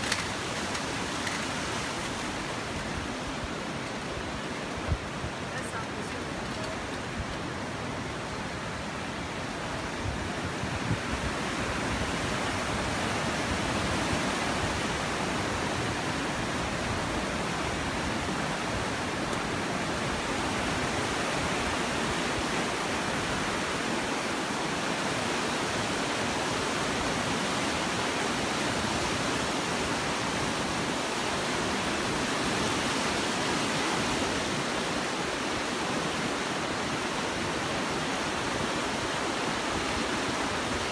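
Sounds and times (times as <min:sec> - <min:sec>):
floodwater rushing through rapids: 0:00.0 - 0:40.9.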